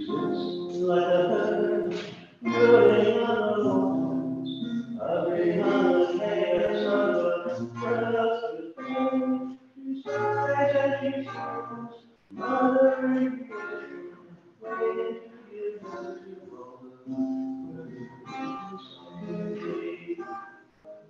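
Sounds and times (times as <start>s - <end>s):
group singing a hymn: 0.0s - 4.2s, 5.0s - 20.3s
acoustic guitar: 0.0s - 21.0s.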